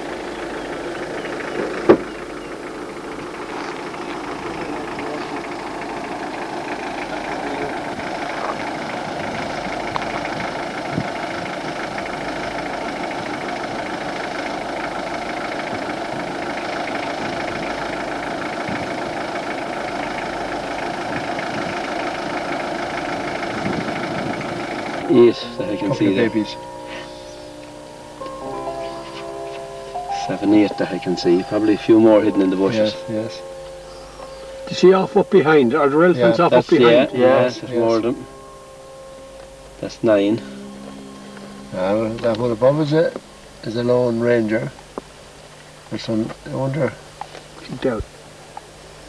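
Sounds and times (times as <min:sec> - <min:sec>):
vehicle engine idling: 0:00.0 - 0:49.0.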